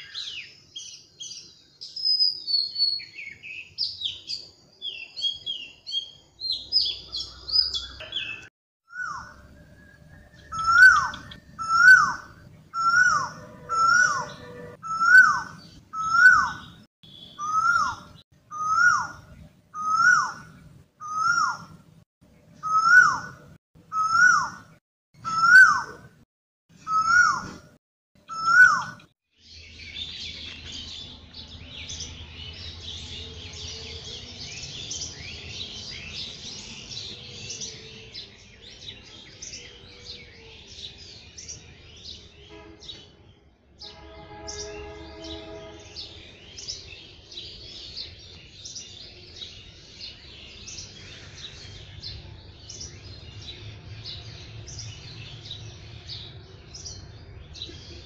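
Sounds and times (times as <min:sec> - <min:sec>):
birds chirping: 0:00.0 - 0:26.1, 0:26.7 - 0:58.0.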